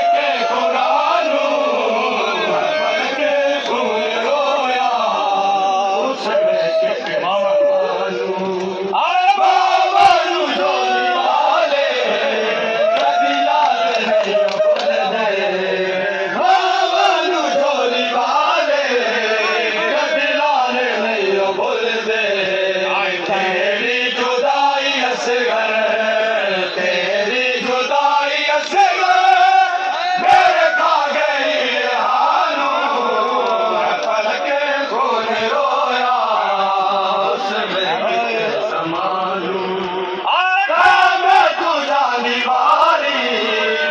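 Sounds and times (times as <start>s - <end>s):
crowd of mourners: 0.0s - 43.9s
men chanting a lament: 0.0s - 43.9s.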